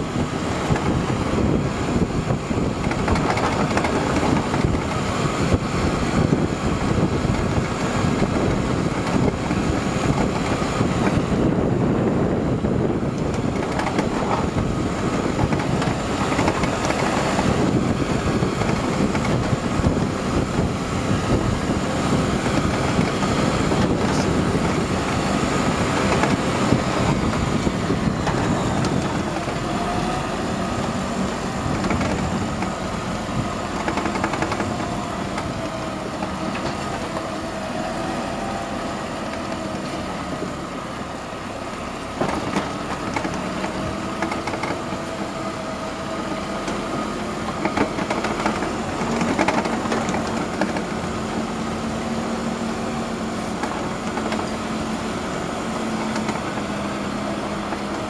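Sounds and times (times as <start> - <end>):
tractor diesel engine running: 0.0 - 58.0
trailer rumbling and rattling: 0.0 - 58.0.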